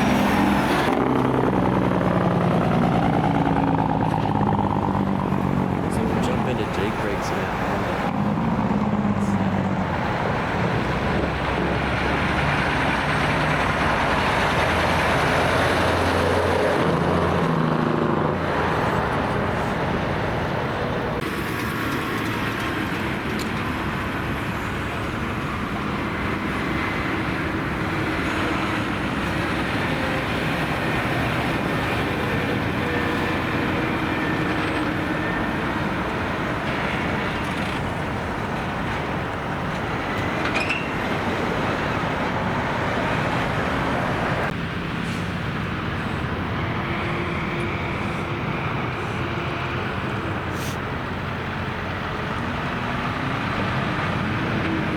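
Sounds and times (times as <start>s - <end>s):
heavy trucks passing: 0.0s - 54.9s
road traffic noise: 0.0s - 54.9s.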